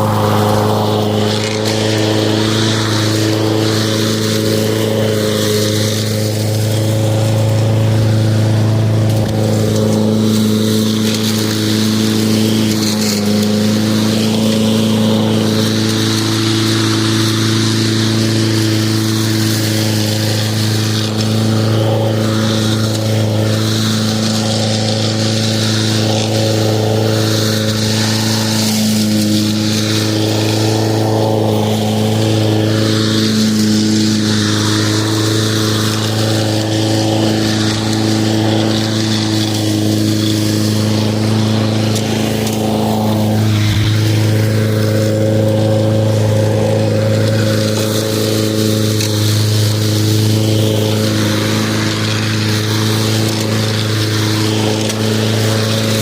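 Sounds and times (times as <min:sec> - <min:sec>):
lawn mower running: 0:00.0 - 0:56.0.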